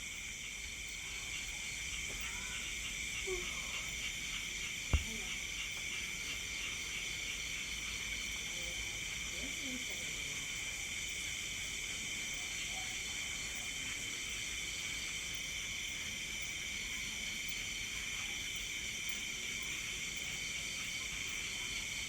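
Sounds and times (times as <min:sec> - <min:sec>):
night insects buzzing and trilling: 0:00.0 - 0:22.0.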